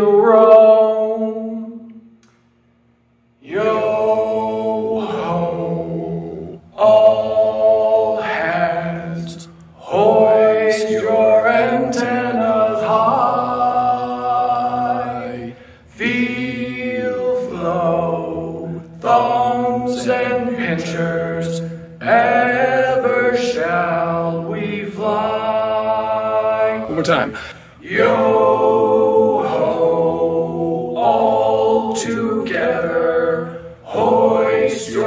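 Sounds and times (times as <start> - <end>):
man singing harmony a cappella: 0.0 - 2.2, 3.4 - 27.1, 27.8 - 35.0.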